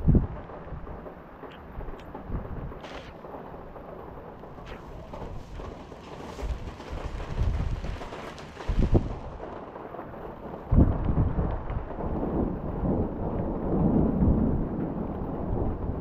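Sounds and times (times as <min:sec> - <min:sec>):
thunder clap: 0:00.0 - 0:16.0
thunder rumbling: 0:00.0 - 0:16.0.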